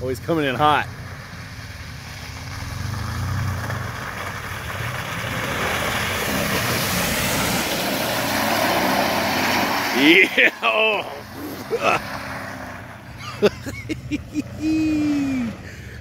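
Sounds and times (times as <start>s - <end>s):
rushing sound of passing truck: 0.9s - 10.3s, 11.1s - 16.0s
mud and water spraying: 1.5s - 15.9s
truck engine running: 2.4s - 16.0s.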